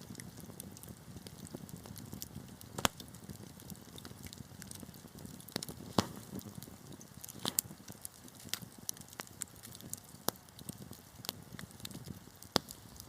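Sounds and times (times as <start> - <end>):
fire flames rumbling: 0.0 - 13.0
wood fire crackling and popping: 0.0 - 13.0.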